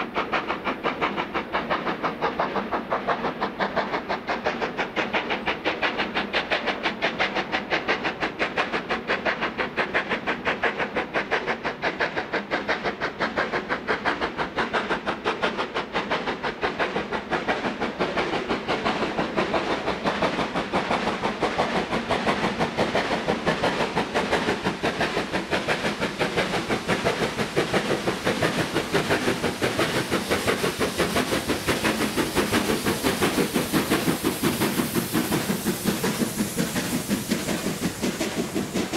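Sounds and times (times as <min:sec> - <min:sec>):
steam hiss: 0:00.0 - 0:38.9
steam locomotive exhaust beating: 0:00.0 - 0:38.9.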